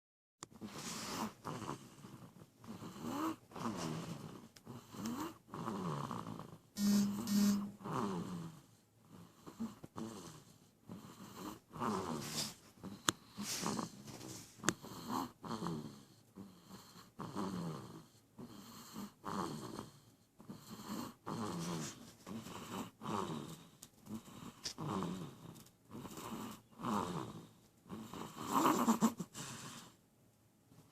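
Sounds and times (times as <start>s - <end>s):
baby snoring: 0.6s - 29.9s.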